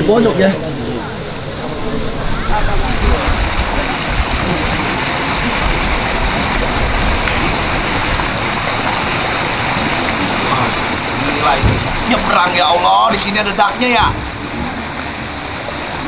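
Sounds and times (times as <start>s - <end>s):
water sloshing from wading: 1.1s - 16.0s.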